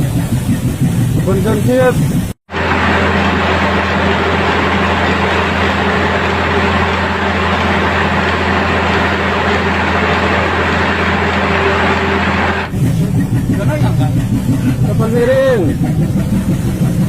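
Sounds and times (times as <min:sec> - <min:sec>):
constant rushing noise: 0:00.0 - 0:17.0
ship engine droning: 0:00.0 - 0:17.0.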